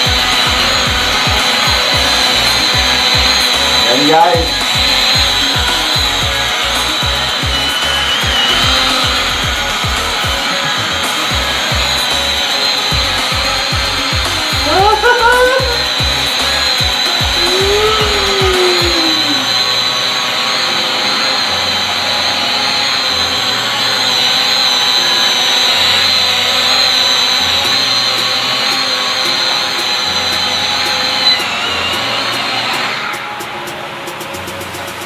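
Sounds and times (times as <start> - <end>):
drone propellers whining: 0.0 - 35.0.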